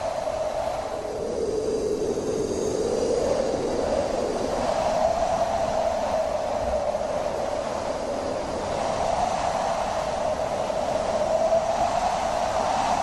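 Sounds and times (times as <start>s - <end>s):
wind blowing: 0.0s - 13.0s.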